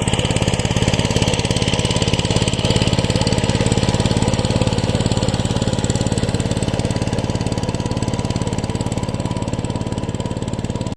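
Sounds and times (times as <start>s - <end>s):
diesel engine running steadily: 0.0s - 10.9s.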